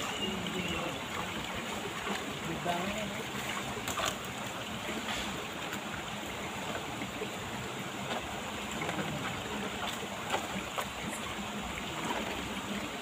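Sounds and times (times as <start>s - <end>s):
stream water over rocks: 0.0s - 13.0s.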